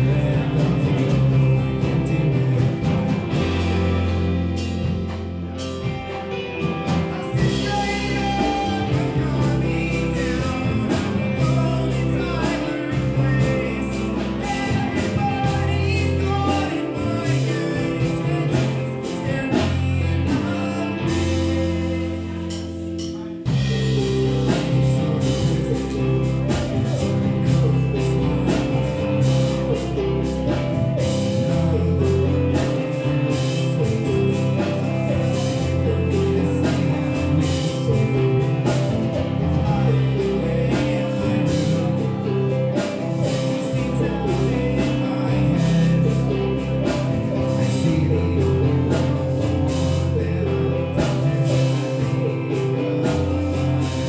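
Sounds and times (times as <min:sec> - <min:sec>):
bass guitar: 0:00.0 - 0:54.0
drum kit: 0:00.0 - 0:54.0
electric guitar: 0:00.0 - 0:54.0
person singing: 0:00.0 - 0:54.0.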